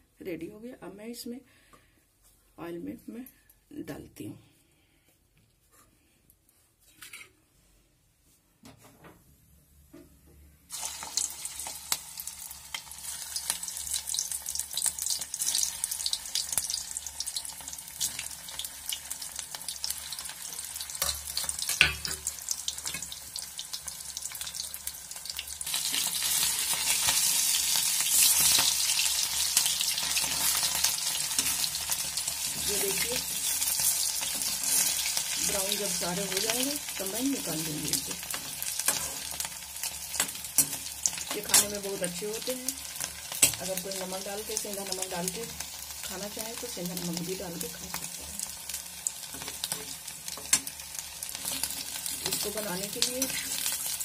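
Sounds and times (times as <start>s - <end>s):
deep-frying crackling sizzle: 10.7s - 54.0s.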